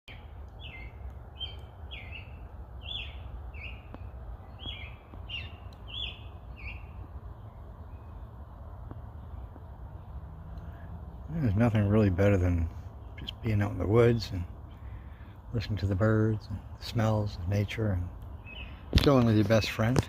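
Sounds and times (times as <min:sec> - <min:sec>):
bird chirping: 0:00.1 - 0:20.0.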